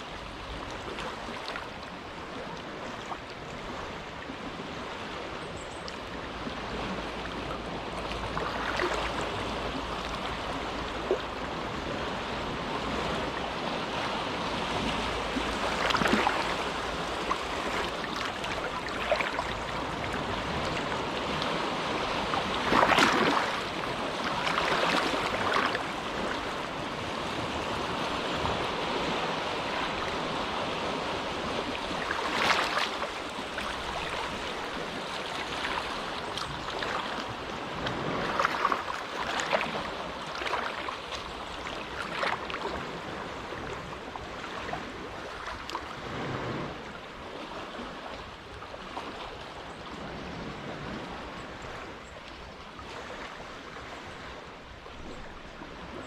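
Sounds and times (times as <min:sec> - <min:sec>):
small waves washing in: 0:00.0 - 0:56.0.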